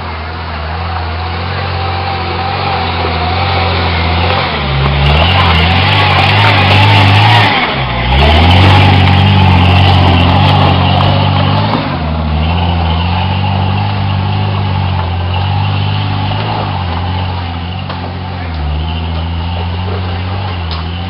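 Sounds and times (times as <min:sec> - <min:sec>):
car engine running hard: 0:00.0 - 0:21.0.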